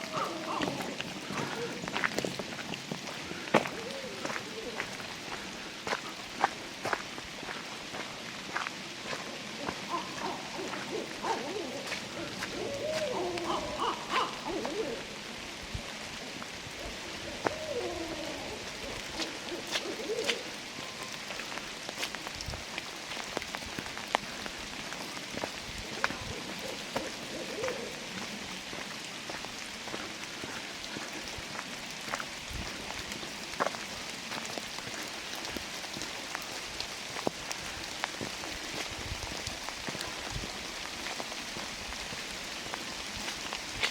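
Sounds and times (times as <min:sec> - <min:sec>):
rain falling through trees: 0:00.0 - 0:43.9
raindrops hitting nearby: 0:00.0 - 0:43.9.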